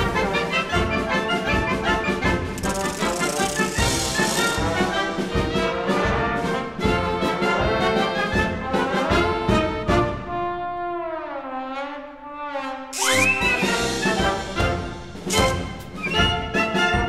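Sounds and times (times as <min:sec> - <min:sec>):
upbeat music with brassy melody: 0:00.0 - 0:17.0.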